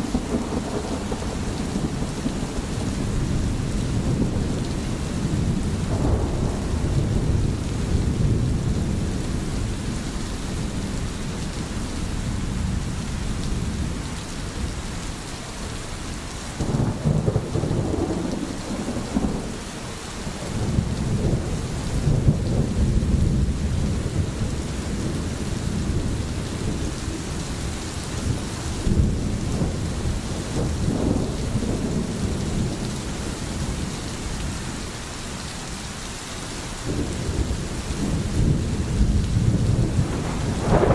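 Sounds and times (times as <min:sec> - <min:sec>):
rolling thunder: 0:00.0 - 0:14.0, 0:16.6 - 0:34.9, 0:36.9 - 0:40.9
heavy rain: 0:00.0 - 0:40.9.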